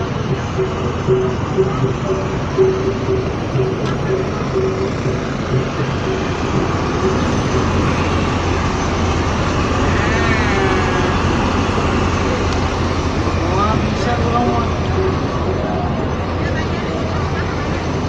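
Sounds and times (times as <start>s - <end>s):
bus engine humming: 0.0s - 18.0s
traffic noise: 0.0s - 18.0s.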